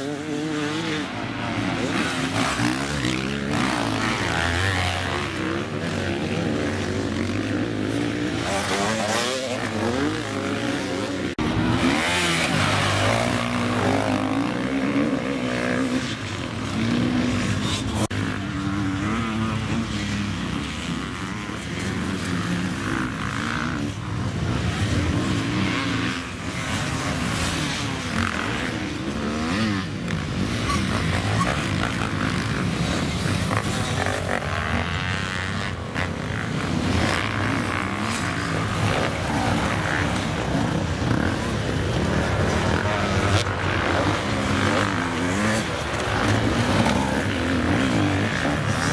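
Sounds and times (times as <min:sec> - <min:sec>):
motorcycle engines revving: 0:00.0 - 0:48.9.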